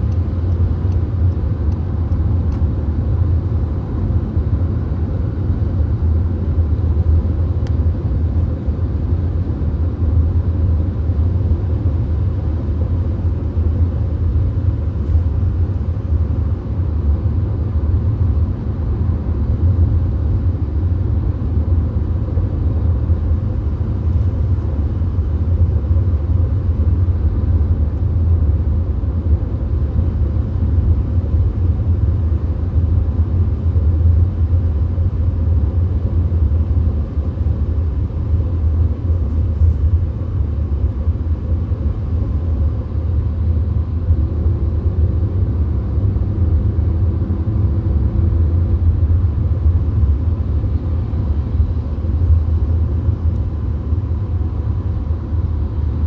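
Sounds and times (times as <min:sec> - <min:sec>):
car road and engine rumble: 0:00.0 - 0:56.0
faint hum: 0:00.0 - 0:56.0.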